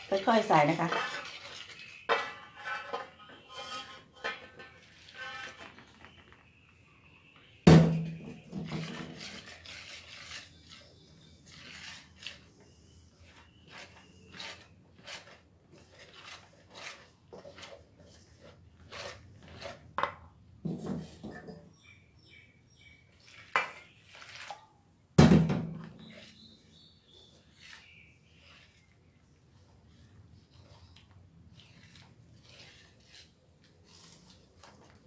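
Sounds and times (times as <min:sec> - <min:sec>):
whisk scraping metal bowl: 0:00.0 - 0:06.2, 0:08.3 - 0:20.1, 0:23.1 - 0:24.7, 0:25.8 - 0:35.0.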